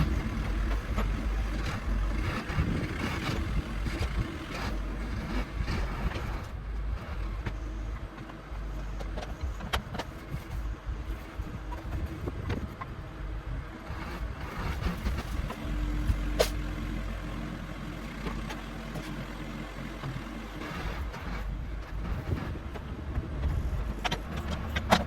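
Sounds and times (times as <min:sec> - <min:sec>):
backhoe engine running: 0:00.0 - 0:25.0.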